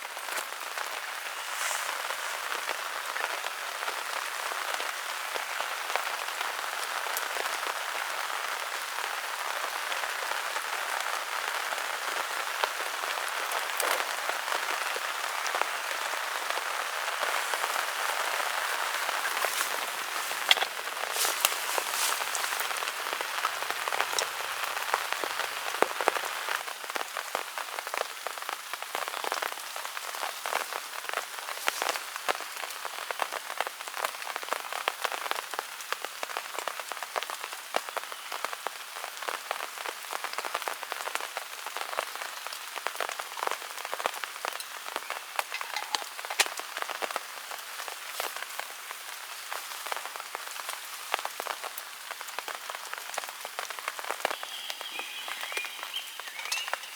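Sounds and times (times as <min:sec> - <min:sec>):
raindrops striking close by: 0:00.0 - 0:56.9
steady rain falling: 0:00.0 - 0:56.9.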